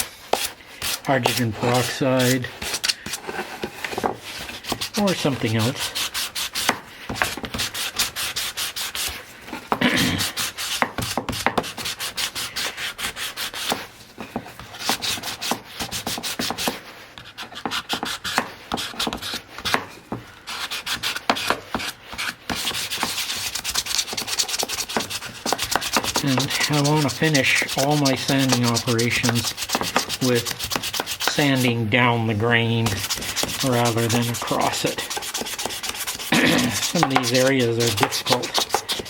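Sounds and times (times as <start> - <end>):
sandpaper rasping on wood: 0.0 - 3.6, 4.2 - 9.3, 9.9 - 13.9, 14.6 - 19.8, 20.5 - 39.0.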